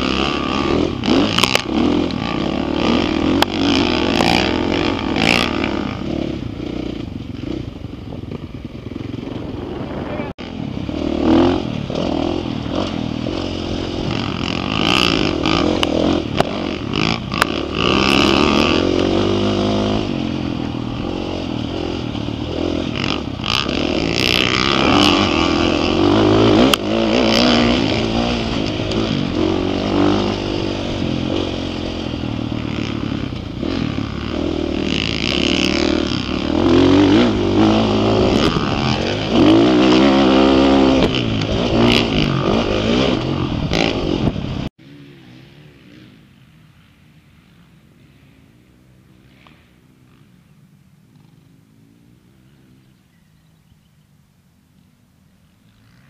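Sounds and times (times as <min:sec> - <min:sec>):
dirt bike engine revving: 0:00.0 - 0:53.6.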